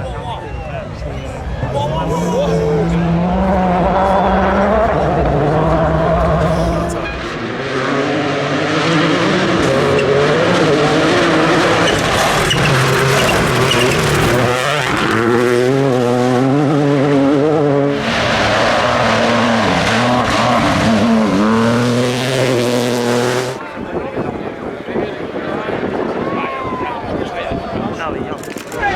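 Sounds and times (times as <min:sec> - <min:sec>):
rally car engine revving: 0:00.0 - 0:23.8.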